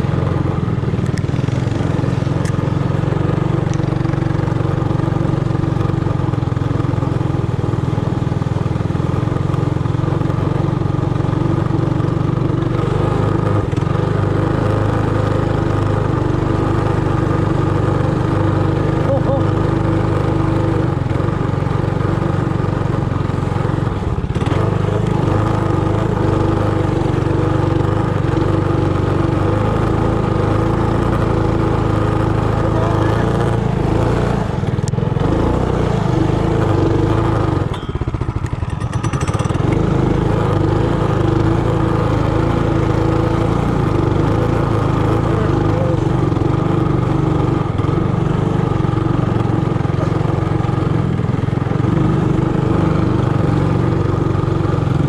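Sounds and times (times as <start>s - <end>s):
minibike engine under throttle: 0.0s - 55.0s.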